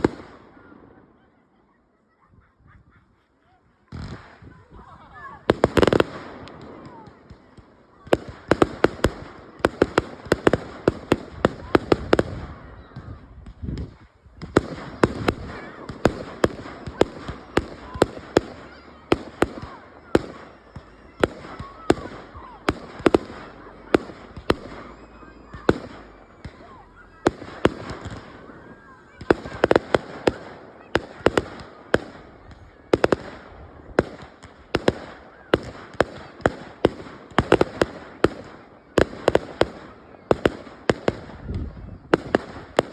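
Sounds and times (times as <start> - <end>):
fireworks banging: 0.0 - 1.1, 3.8 - 42.9
fireworks crackling: 0.0 - 1.4, 3.8 - 42.9.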